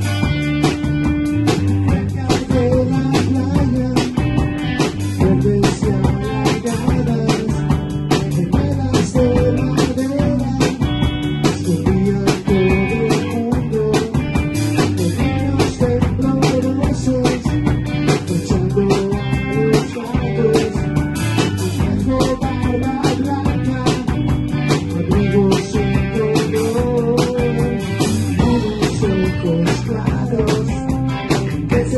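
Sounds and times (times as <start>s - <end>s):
drum kit fast beat: 0.0s - 31.9s
rock band playing live: 0.0s - 31.9s.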